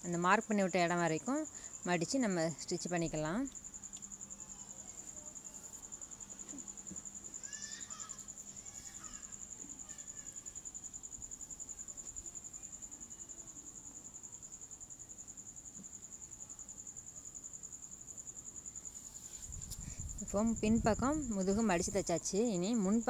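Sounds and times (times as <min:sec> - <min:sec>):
cricket chirring: 0:00.0 - 0:23.0.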